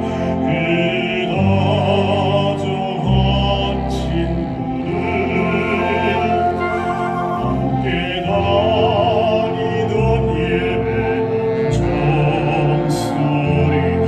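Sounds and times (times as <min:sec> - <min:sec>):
instrumental accompaniment: 0:00.0 - 0:14.0
man singing with vibrato: 0:00.0 - 0:14.0.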